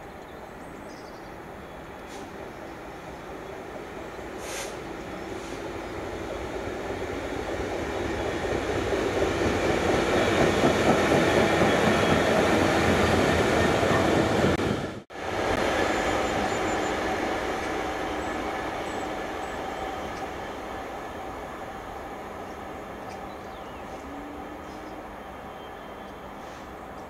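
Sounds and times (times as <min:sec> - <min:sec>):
diesel locomotives passing: 0:00.0 - 0:27.0.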